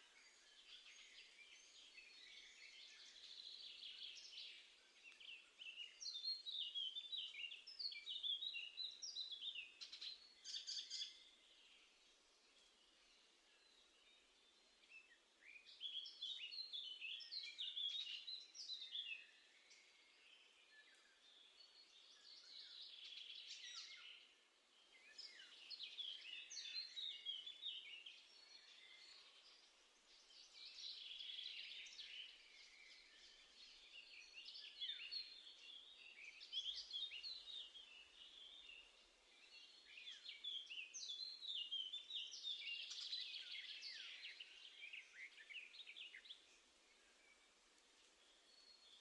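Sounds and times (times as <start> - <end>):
songbirds singing: 0.0 - 49.0.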